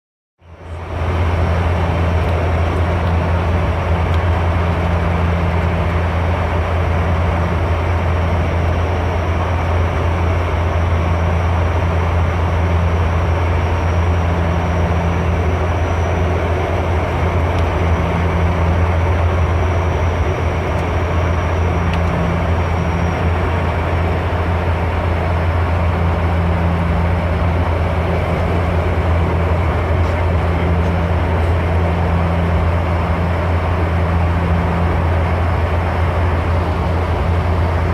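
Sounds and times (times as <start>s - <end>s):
propeller drone: 0.4s - 37.9s.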